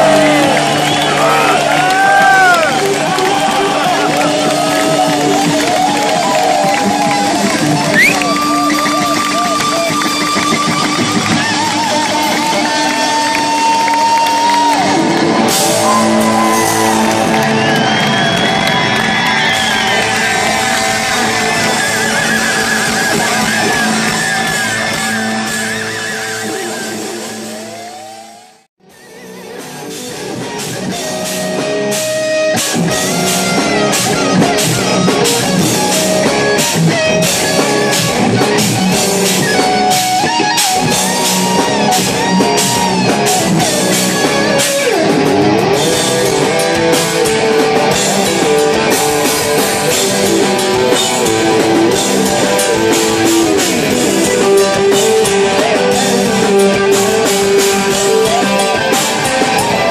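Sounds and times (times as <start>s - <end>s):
drum kit: 0.0s - 28.2s, 28.8s - 59.9s
bass guitar: 0.0s - 59.9s
electric lead guitar: 0.0s - 59.9s.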